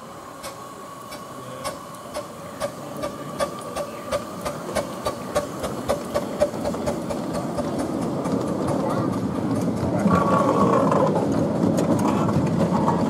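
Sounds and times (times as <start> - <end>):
miniature train clacking: 0.0 - 13.0
train rumble: 0.0 - 13.0.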